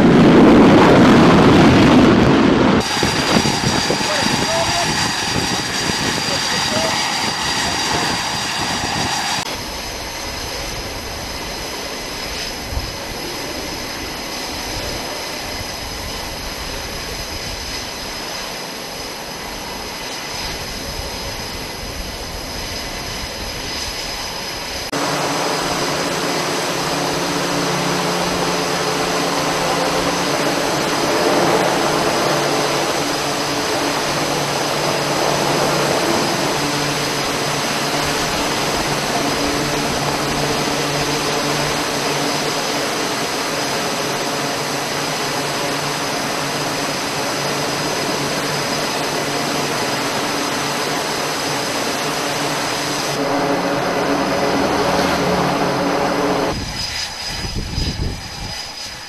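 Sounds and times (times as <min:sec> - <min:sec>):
helicopter hovering low: 0:00.0 - 0:59.0
jet engines running: 0:00.0 - 0:59.0.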